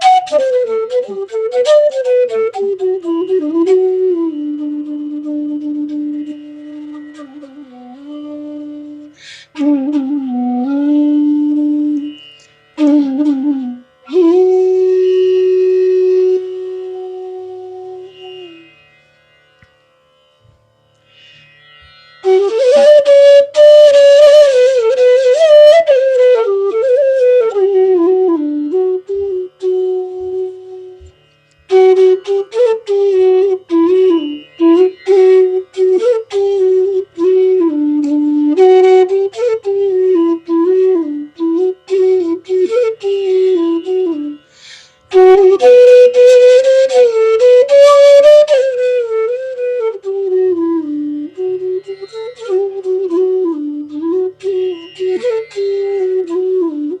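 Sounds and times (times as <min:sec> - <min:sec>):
bamboo flute melody: 0:00.0 - 0:19.5, 0:21.1 - 0:57.0.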